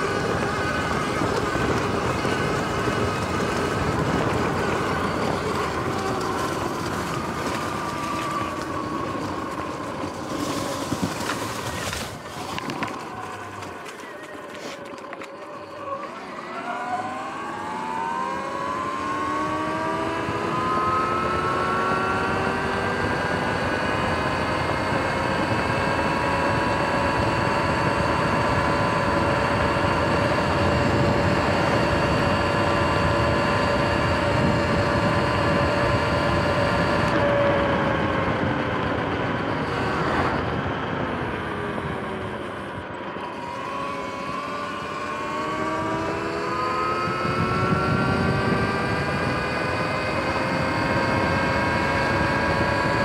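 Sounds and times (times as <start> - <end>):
electric motorbike motor whining: 0.0 - 53.0.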